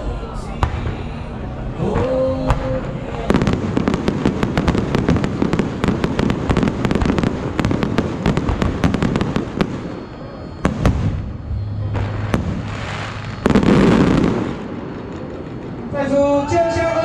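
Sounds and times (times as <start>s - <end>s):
fireworks bangs and cracks: 0.6s - 1.1s, 1.8s - 17.0s.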